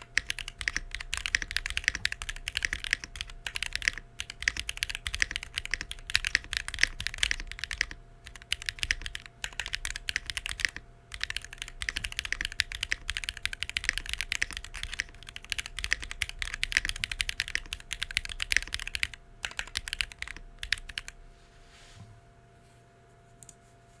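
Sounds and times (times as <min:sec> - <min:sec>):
fast mechanical keyboard typing: 0:00.0 - 0:21.2.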